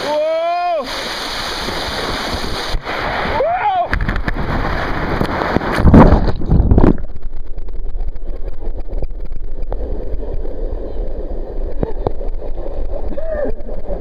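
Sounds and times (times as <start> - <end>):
rushing gurgling water: 0.0 - 14.0
water splashing: 0.0 - 14.0.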